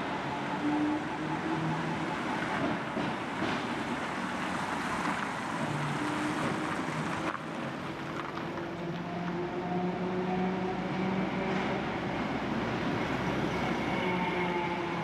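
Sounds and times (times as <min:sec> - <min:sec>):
tram rolling rumble: 0:00.0 - 0:15.0.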